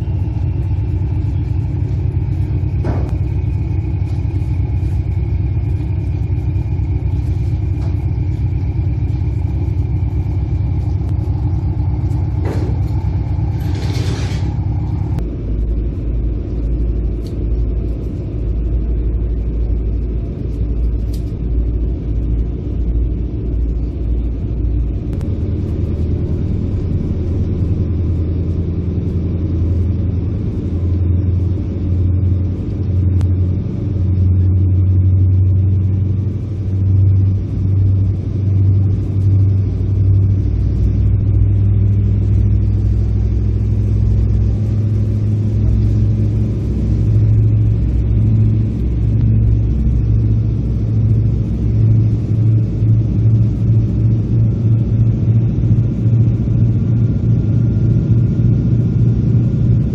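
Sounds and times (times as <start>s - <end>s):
diesel engines rumbling: 0.0s - 59.9s.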